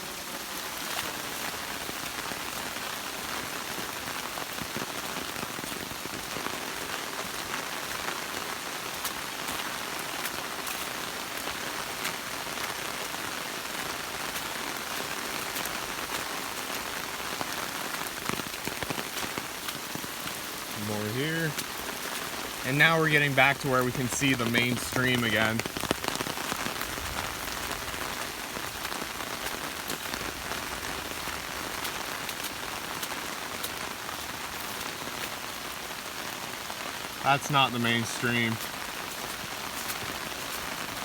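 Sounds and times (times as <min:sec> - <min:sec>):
steady rain hiss: 0:00.0 - 0:41.0
sharp raindrop taps: 0:00.9 - 0:41.0.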